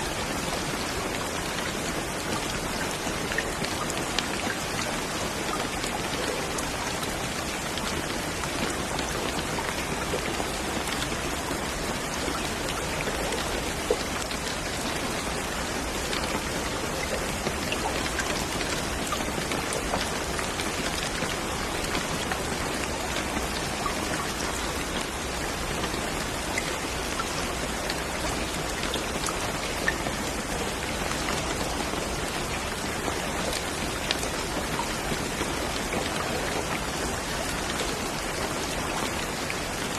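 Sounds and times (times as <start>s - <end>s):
raindrops pattering: 0.0s - 39.9s
steady rain hiss: 0.0s - 39.9s.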